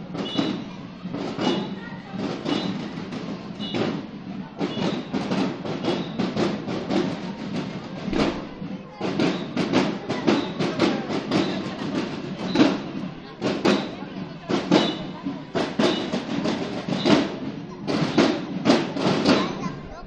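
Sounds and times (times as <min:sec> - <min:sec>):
marching drums beating: 0:00.0 - 0:20.0.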